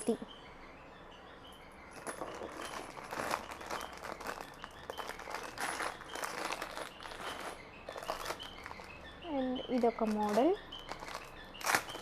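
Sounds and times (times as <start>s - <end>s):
jewellery and plastic packaging rustling: 1.9s - 12.0s.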